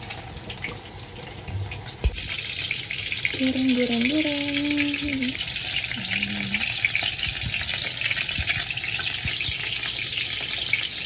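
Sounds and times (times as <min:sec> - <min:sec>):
chicken wings sizzling in oil: 0:00.0 - 0:11.0.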